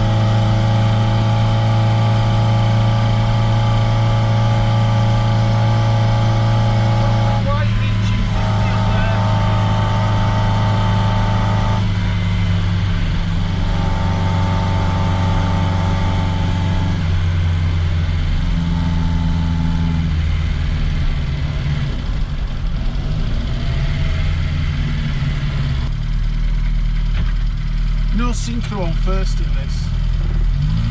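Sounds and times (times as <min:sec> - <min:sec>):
small car engine running: 0:00.0 - 0:30.9.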